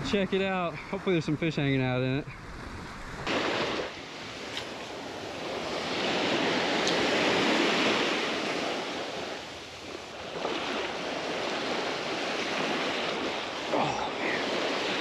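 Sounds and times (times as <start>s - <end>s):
small waves washing onto sand: 2.6s - 15.0s.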